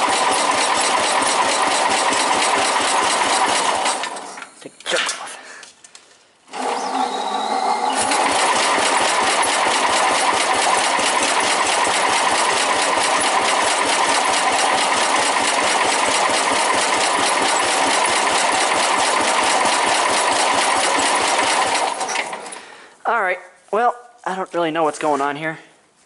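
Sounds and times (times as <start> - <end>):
engine cranking with electric starter: 0.0 - 5.1, 6.5 - 22.7.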